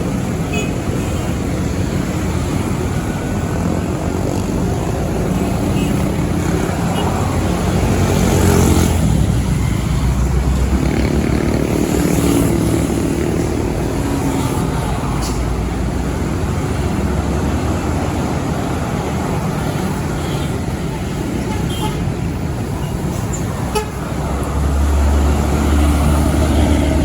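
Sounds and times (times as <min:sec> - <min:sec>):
heavy trucks driving past: 0:00.0 - 0:27.0.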